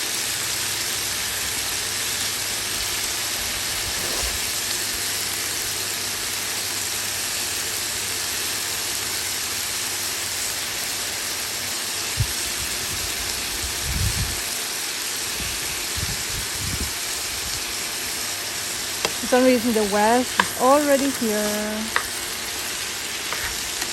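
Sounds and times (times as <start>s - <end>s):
vegetables sizzling in a frying pan: 0.0s - 23.9s.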